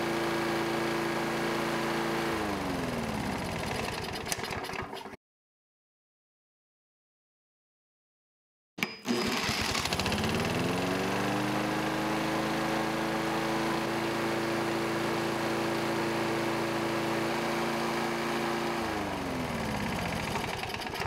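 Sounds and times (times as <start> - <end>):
lawn mower engine running: 0.0 - 5.2, 9.0 - 21.0.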